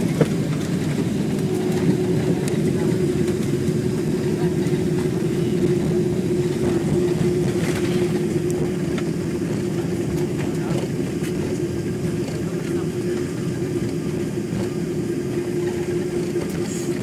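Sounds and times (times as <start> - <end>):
low rumble of engines and wheels: 0.0 - 17.0
steady cabin hum: 0.0 - 17.0.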